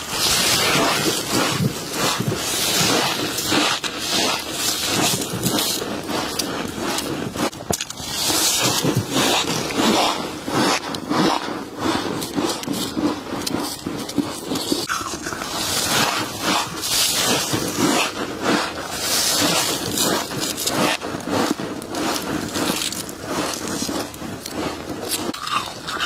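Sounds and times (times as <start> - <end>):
crunching frost being chewed: 0.0 - 26.0.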